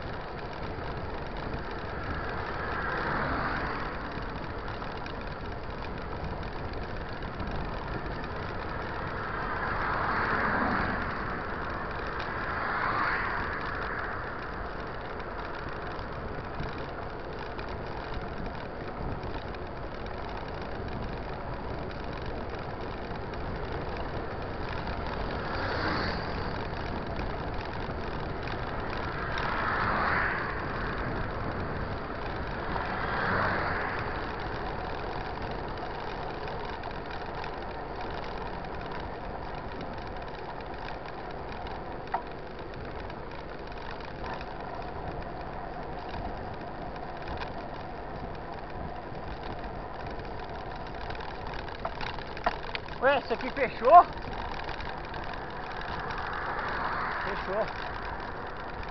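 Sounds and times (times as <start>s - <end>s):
road and wind noise: 0.0s - 58.9s
vehicles passing: 0.0s - 58.9s.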